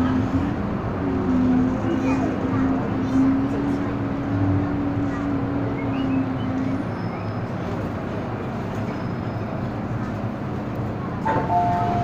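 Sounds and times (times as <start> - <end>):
train wheel and running noise: 0.0 - 12.0.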